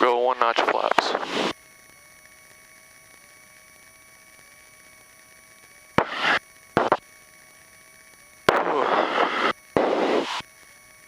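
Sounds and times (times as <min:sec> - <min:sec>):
faint hum with wavering tone: 0:00.0 - 0:11.0.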